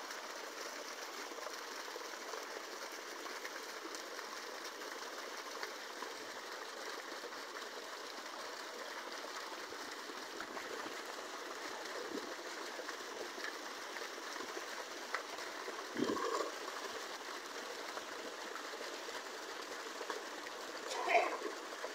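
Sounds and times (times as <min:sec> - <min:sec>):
fountain water splashing: 0:00.0 - 0:21.9.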